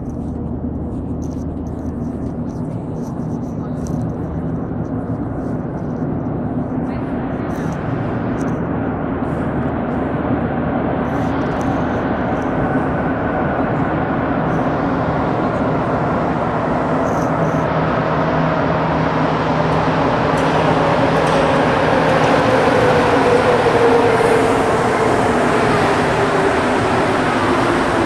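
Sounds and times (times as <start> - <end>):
metro train rumble: 0.0 - 28.0.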